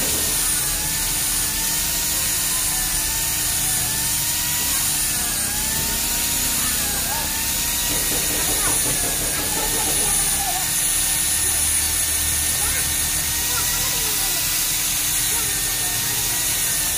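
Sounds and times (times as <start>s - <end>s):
angle grinder cutting metal: 0.0s - 16.9s.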